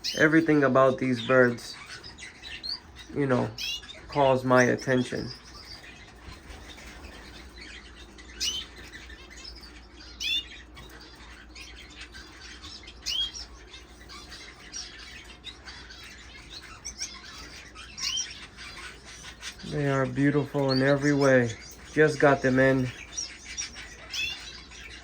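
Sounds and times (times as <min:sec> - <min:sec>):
faint twittering: 0:00.0 - 0:25.0
finches chirping: 0:00.0 - 0:25.0.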